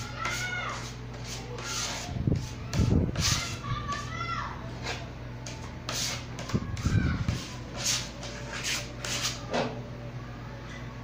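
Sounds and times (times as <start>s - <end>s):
hand rubbing on wood: 0.0s - 4.2s, 4.8s - 9.4s
steady low hum: 0.0s - 11.0s.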